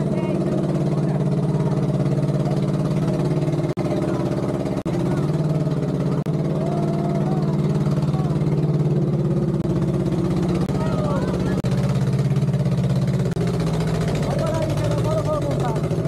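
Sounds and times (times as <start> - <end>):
cart engine running under load: 0.0 - 16.0.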